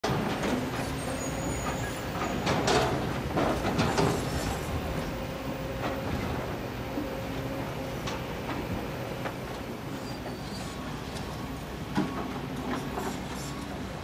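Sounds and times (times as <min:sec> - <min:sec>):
excavator diesel engines running: 0:00.0 - 0:14.0.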